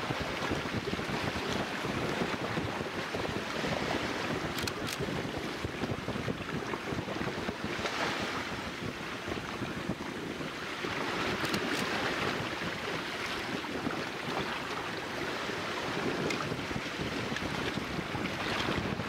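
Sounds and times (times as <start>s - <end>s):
small waves washing on shore: 0.0s - 19.0s
wind buffeting microphone: 0.0s - 19.0s.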